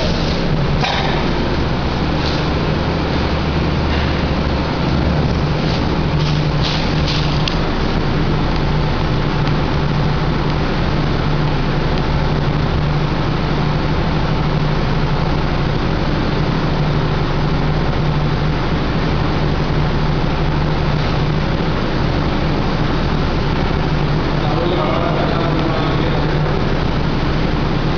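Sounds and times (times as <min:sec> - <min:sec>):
milling machine humming: 0:00.0 - 0:27.9.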